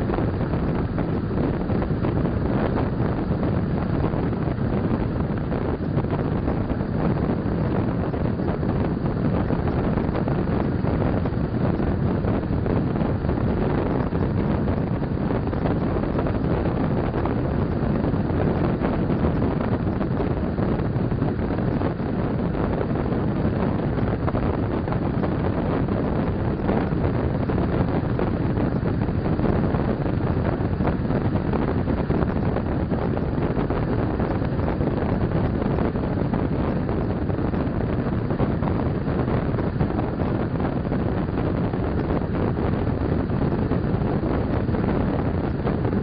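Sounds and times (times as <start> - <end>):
rush of wind: 0.0 - 46.0.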